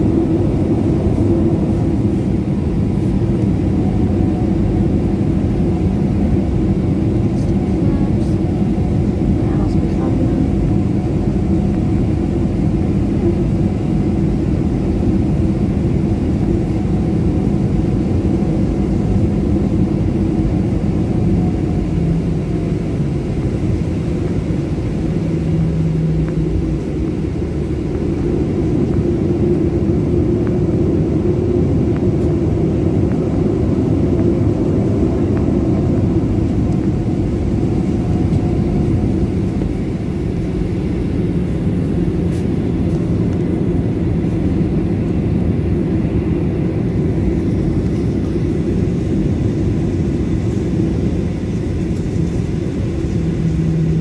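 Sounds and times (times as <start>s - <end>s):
aircraft cabin rumble: 0.0s - 54.0s
low hum: 0.0s - 54.0s.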